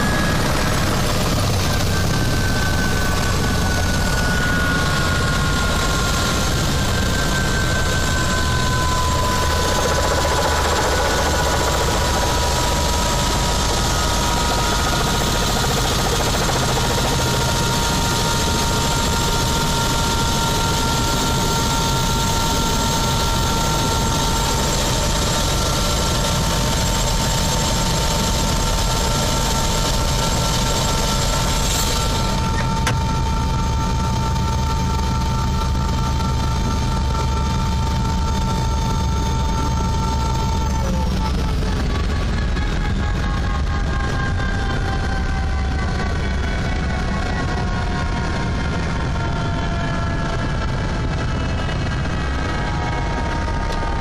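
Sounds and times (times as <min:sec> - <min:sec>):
helicopter rotor rumble: 0:00.0 - 0:54.0
turbine whine: 0:00.0 - 0:54.0.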